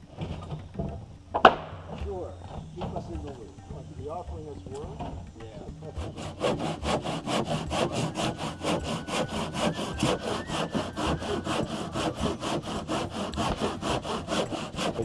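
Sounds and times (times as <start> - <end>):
hand saw cutting wood: 2.8 - 15.0.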